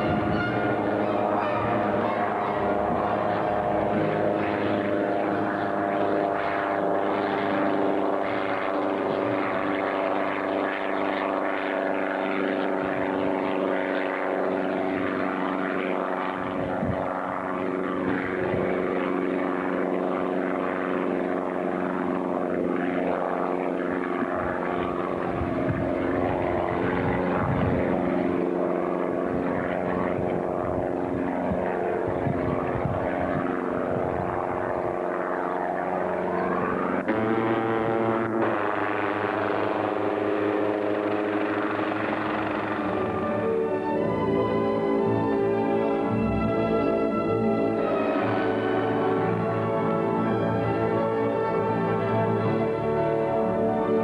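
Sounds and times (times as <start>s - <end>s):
helicopter engine and rotors drone: 0.0s - 54.0s.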